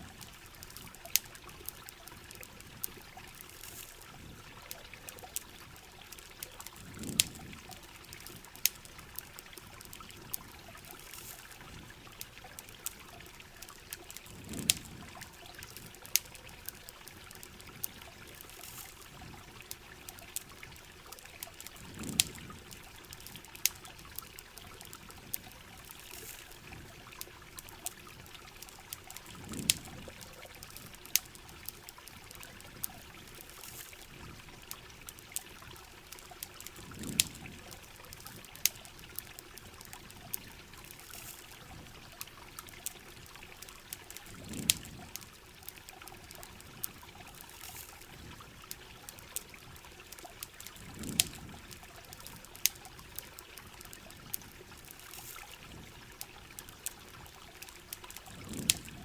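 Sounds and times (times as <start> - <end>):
campfire crackling: 0.0 - 59.0
running water: 0.0 - 59.0
steady rain: 0.0 - 59.0.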